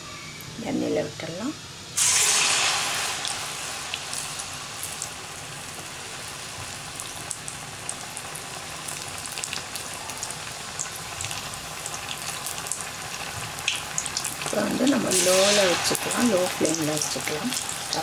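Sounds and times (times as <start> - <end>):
food deep-frying in oil: 0.1 - 18.0.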